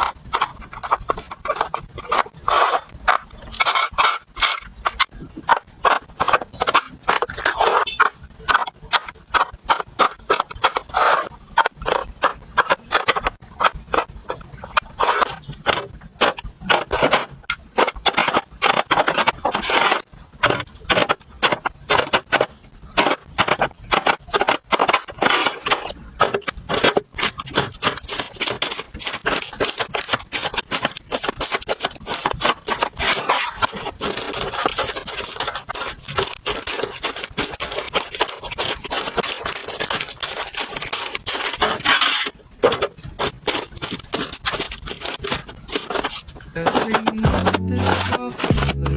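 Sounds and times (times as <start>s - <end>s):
kitchen items and packaging handled: 0.0s - 48.9s.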